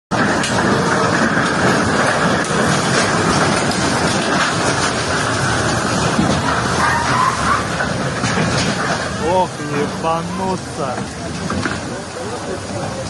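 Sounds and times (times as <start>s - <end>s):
floodwater rushing: 0.1s - 13.0s.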